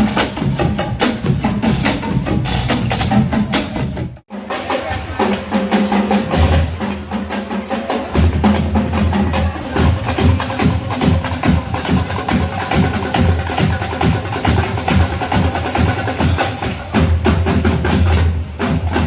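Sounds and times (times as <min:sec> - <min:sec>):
fast drum strokes: 0:00.0 - 0:19.0
marching band playing: 0:00.0 - 0:19.0.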